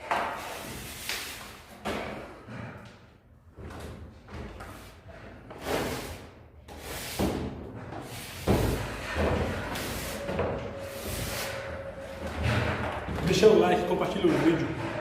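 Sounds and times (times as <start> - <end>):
knocks and scraping: 0.0 - 15.0.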